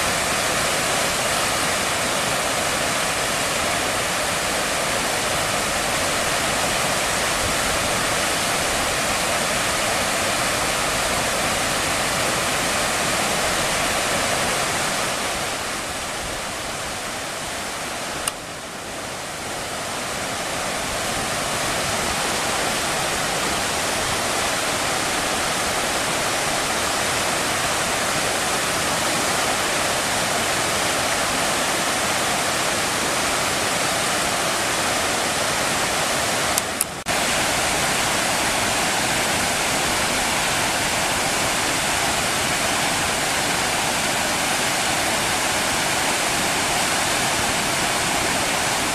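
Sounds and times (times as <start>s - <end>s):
river rushing over weir: 0.0s - 48.9s.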